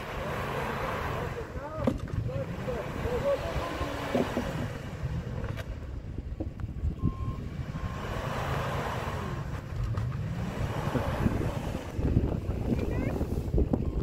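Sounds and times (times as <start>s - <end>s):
truck engine revving under load: 0.0s - 14.0s.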